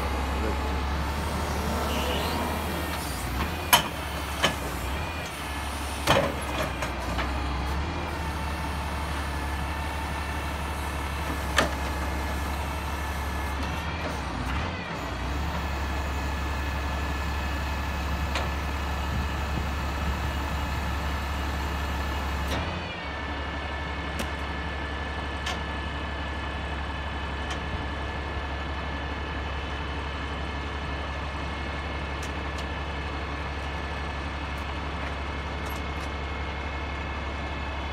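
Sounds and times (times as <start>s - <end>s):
diesel truck engine rumbling: 0.0s - 37.9s.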